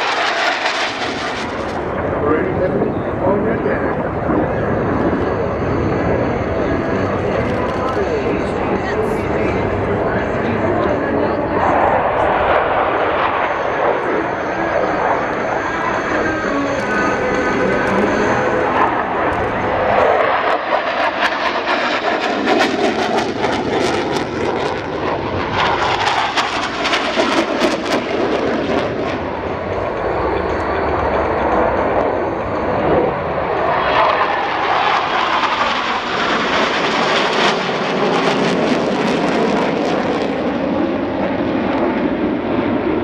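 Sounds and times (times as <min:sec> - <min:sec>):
jet engine roar crackling: 0:00.0 - 0:43.0.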